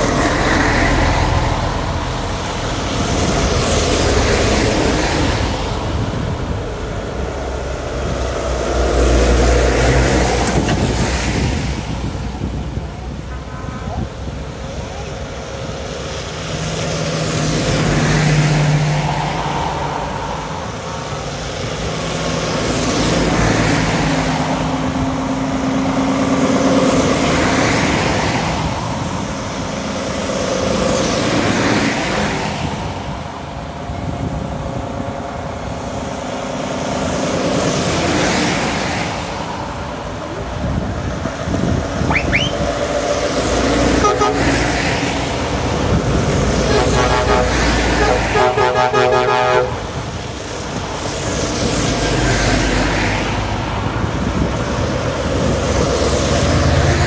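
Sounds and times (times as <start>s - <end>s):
heavy lorries driving past: 0.0s - 57.0s.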